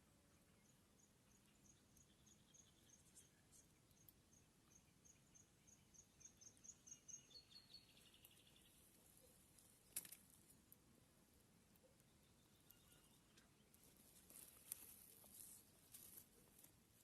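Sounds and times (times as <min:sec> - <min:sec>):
faint high chirps: 0:00.2 - 0:10.0, 0:11.7 - 0:16.0.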